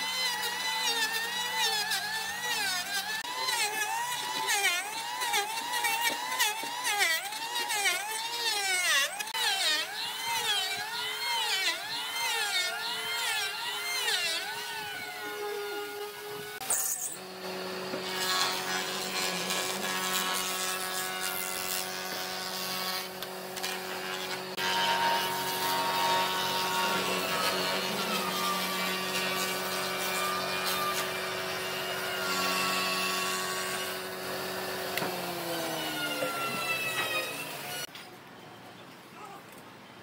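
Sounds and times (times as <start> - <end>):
rough wood shaving noise: 0.0 - 37.9.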